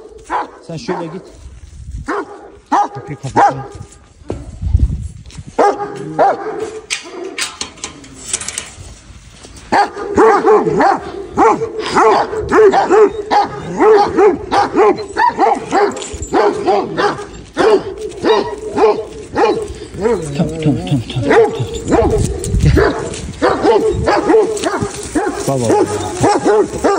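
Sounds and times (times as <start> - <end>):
large dogs barking: 0.0 - 1.4, 2.1 - 4.0, 5.5 - 8.0, 9.6 - 26.9.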